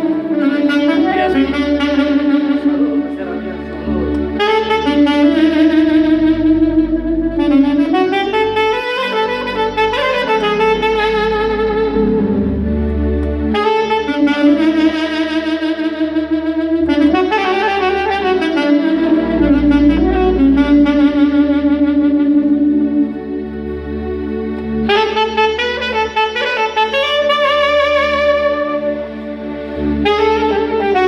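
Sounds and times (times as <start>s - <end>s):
low bass accompaniment: 0.0s - 31.0s
saxophone melody: 0.0s - 31.0s.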